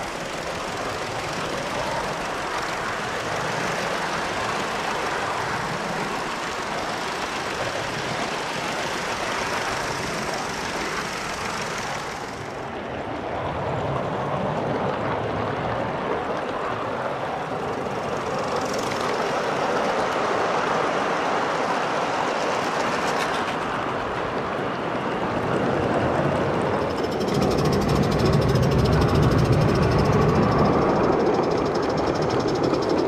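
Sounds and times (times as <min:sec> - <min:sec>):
model train running on track: 0:00.0 - 0:13.5, 0:14.7 - 0:33.0.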